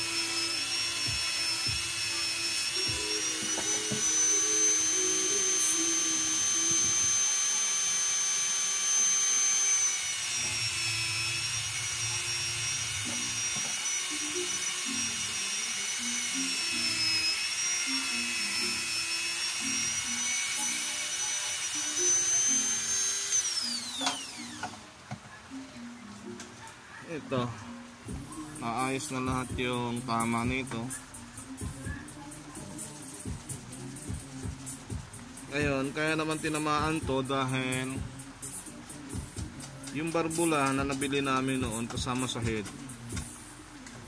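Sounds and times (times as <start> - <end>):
electric rotary grinder whining: 0.0 - 44.0.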